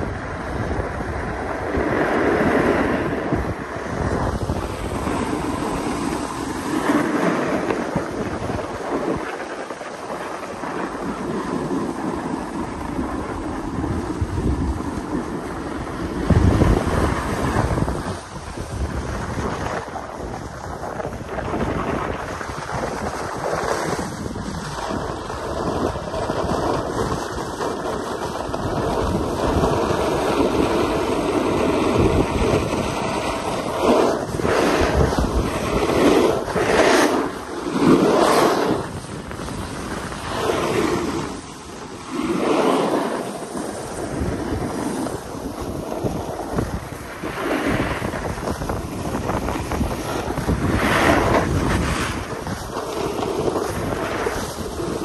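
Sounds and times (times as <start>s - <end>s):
wind rushing over microphone: 0.0s - 55.0s
board edges scraping snow: 0.5s - 55.0s.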